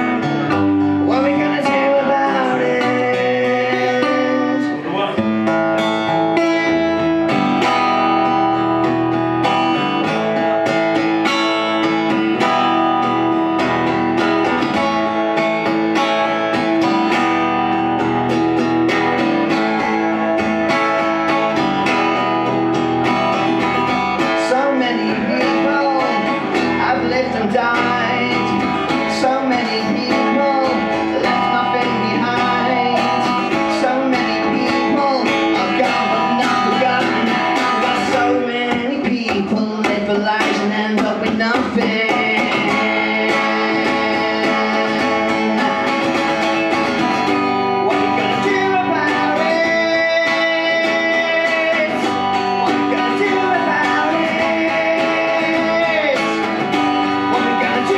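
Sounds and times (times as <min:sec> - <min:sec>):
acoustic guitar playing: 0:00.0 - 0:57.9.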